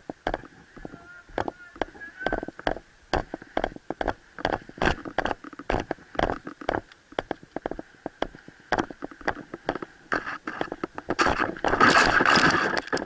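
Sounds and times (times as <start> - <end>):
footsteps crunching on gravel: 0.0 - 12.7.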